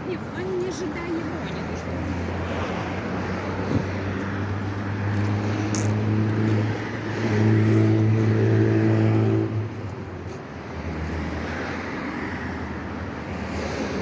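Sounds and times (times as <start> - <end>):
vehicle engine humming: 0.0 - 12.0
road noise: 0.0 - 14.0.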